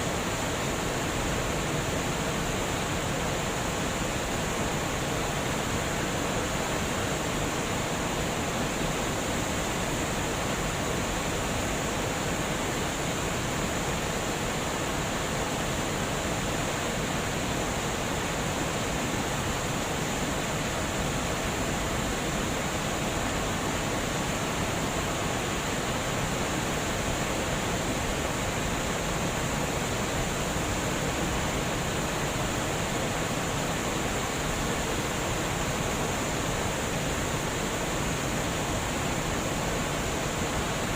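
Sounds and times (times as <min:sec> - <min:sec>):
water rushing over a dam: 0:00.0 - 0:40.9.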